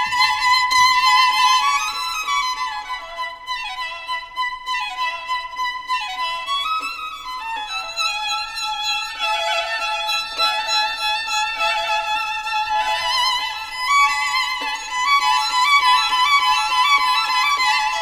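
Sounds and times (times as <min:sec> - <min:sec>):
violin melody: 0:00.0 - 0:18.0.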